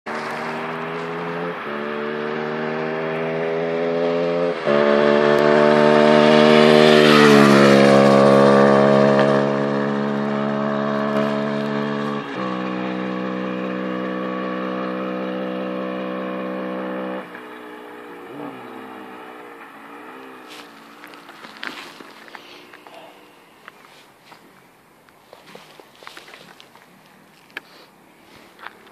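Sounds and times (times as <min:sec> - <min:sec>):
motorcycle engine revving: 0:00.1 - 0:23.5.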